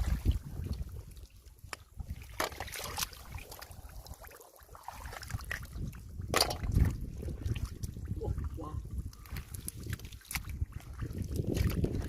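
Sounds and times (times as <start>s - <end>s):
shallow water sloshing: 0.0s - 12.0s.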